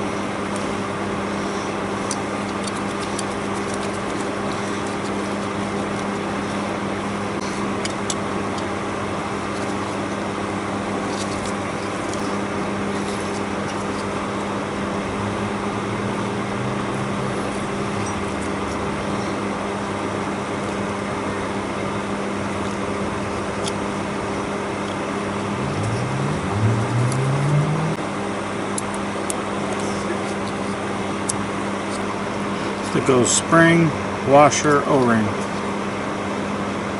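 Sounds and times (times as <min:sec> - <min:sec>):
steady mechanical hum: 0:00.0 - 0:36.9.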